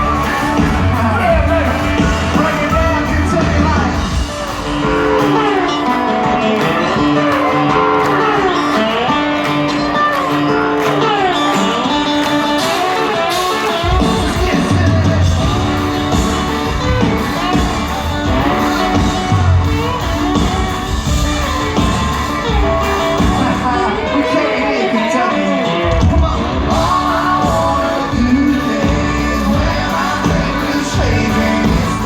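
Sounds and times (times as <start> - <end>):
country-rock band playing: 0.0 - 32.0
guitar with sliding notes: 0.0 - 32.0.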